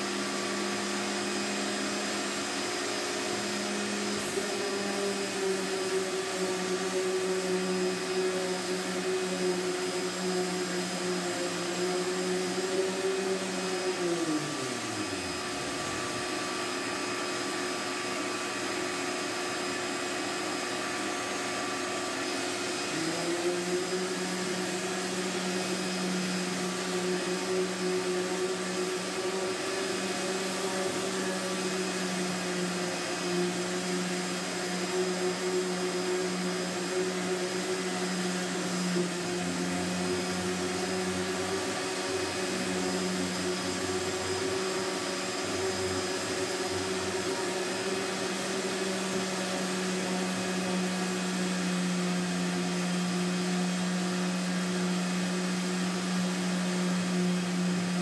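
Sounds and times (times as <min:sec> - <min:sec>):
shop vacuum running: 0:00.0 - 0:58.0.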